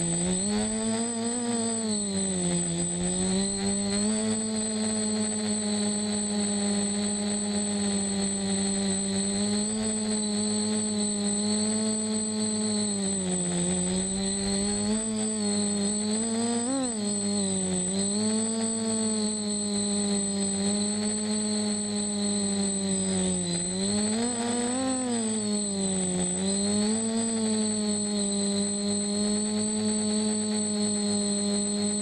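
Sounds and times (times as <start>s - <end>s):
high electric whine: 0.0s - 32.0s
quadcopter motors humming: 0.0s - 32.0s.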